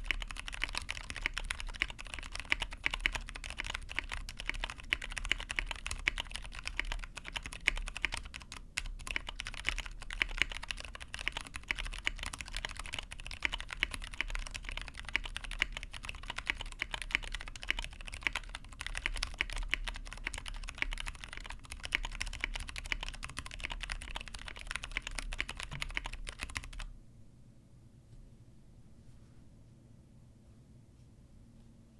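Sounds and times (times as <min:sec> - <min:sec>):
fast mechanical keyboard typing: 0:00.0 - 0:26.9.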